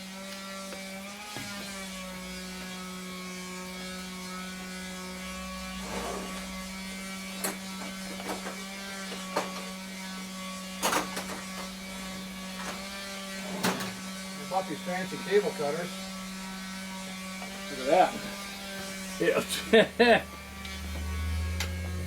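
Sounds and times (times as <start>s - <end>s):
electrical hum: 1.8s - 22.0s.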